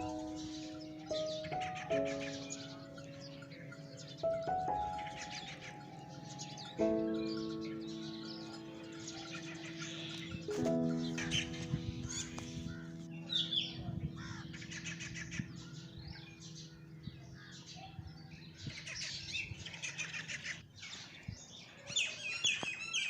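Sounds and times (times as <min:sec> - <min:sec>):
held music chord: 0:00.0 - 0:18.6
birds chirping: 0:00.0 - 0:23.0.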